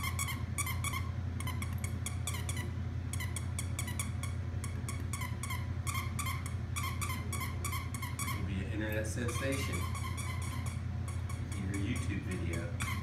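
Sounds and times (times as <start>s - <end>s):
dog toy squeaking: 0.0s - 8.5s, 9.3s - 13.0s.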